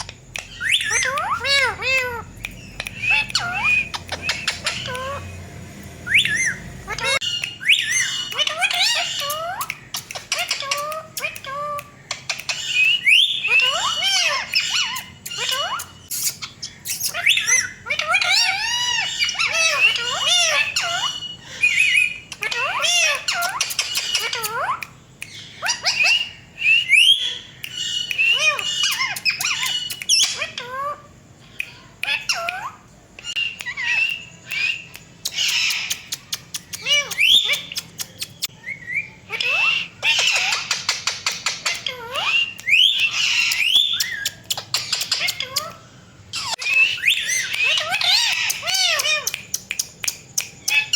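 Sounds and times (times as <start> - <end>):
parakeets squawking and calling: 0.0 - 50.9.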